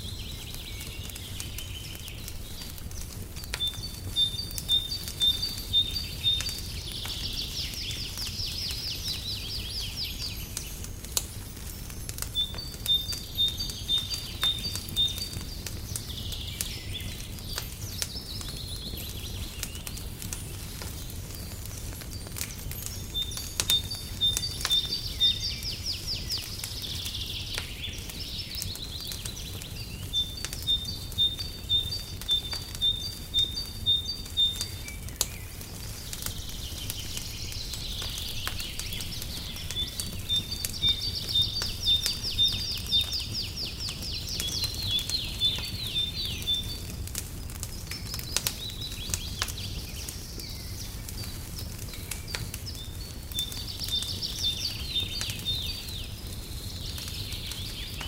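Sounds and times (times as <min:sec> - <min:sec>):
fireplace crackling: 0:00.0 - 0:58.0
songbirds chirping: 0:00.0 - 0:58.0.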